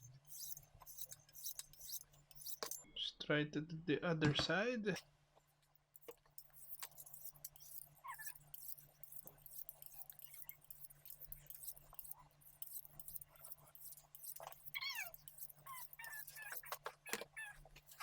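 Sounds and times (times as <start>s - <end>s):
knife sharpener clicks and scraping: 0.3s - 2.9s, 6.0s - 18.0s.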